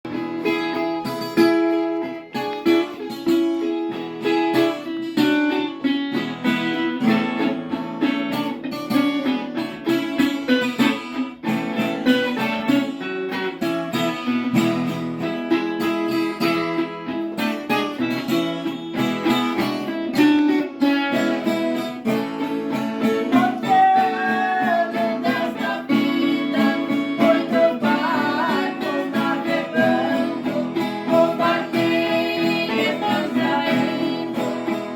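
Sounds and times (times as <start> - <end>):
acoustic guitar playing: 0.0 - 34.9.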